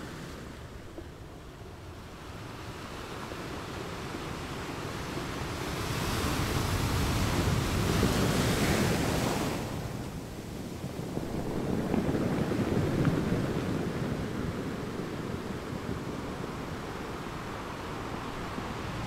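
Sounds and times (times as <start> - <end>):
waves washing up a beach: 0.0 - 19.0.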